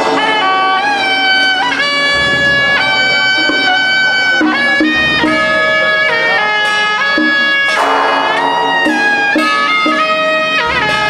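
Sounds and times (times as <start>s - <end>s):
instrumental melody of held notes: 0.0s - 11.0s.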